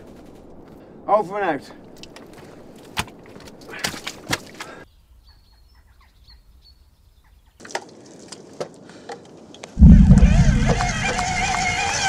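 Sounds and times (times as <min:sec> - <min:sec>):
rough outdoor ambience: 0:00.0 - 0:12.0.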